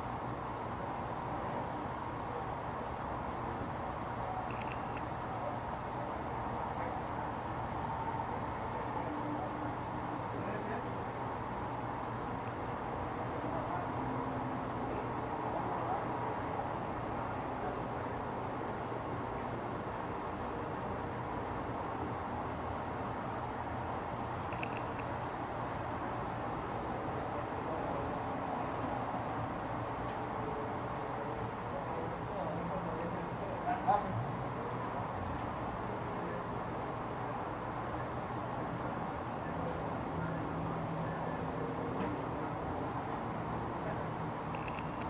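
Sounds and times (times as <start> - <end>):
faint background murmur: 0.0 - 45.0.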